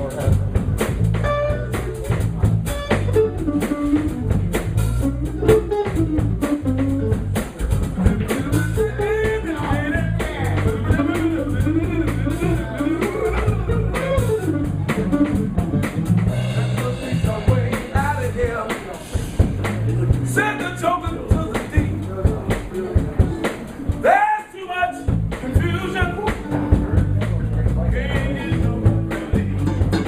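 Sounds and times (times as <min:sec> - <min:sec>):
electric guitar lead: 0:00.0 - 0:22.1, 0:25.0 - 0:30.0
bass guitar: 0:00.0 - 0:24.3, 0:24.9 - 0:30.0
drum kit: 0:00.0 - 0:30.0.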